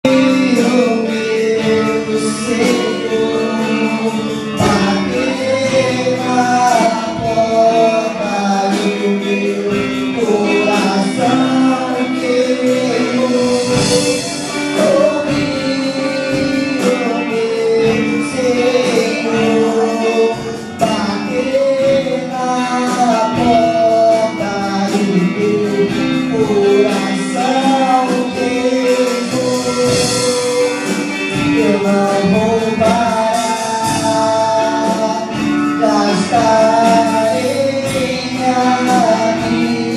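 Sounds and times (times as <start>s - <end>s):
instrumental accompaniment: 0.0s - 39.9s
person singing gospel song: 0.0s - 39.9s.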